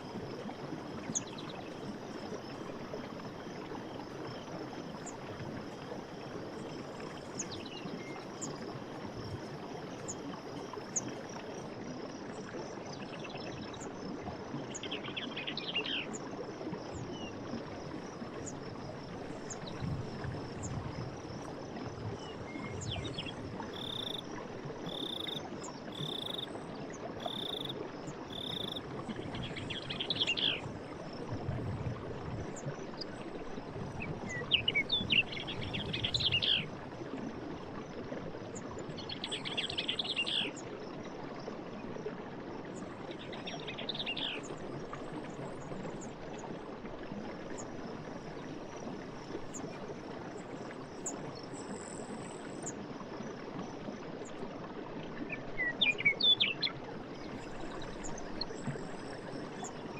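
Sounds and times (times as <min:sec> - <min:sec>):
insect chorus: 0:00.0 - 0:42.1, 0:42.7 - 0:46.6, 0:47.4 - 0:53.8, 0:55.6 - 0:59.9.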